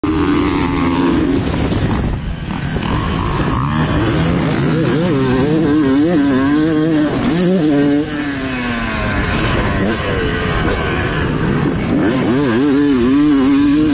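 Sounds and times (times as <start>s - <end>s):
motocross bike engine revving: 0.0s - 13.9s.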